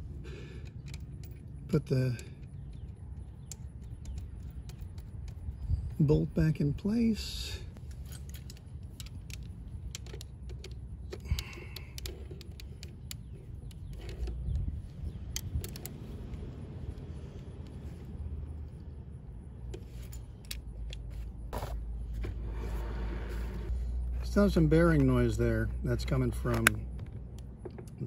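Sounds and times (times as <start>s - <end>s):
low steady rumble: 0.0s - 28.0s.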